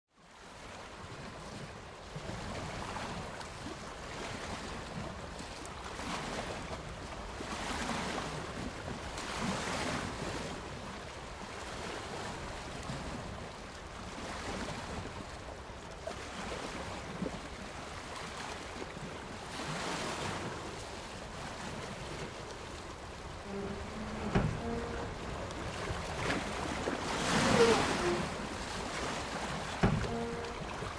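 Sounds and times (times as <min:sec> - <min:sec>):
wind: 0:00.1 - 0:30.9
water washing and lapping: 0:02.2 - 0:30.9.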